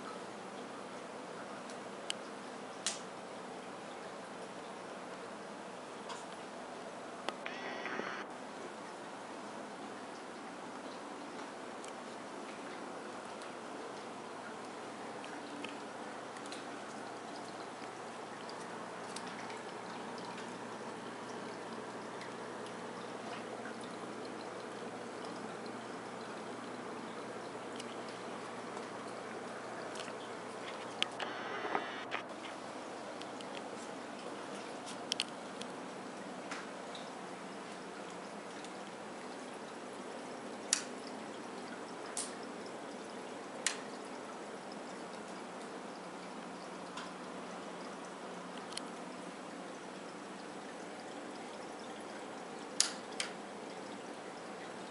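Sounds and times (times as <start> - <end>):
aquarium filter water trickling: 0.0 - 7.4, 8.3 - 31.4, 32.2 - 54.9
faint hum: 0.0 - 54.9.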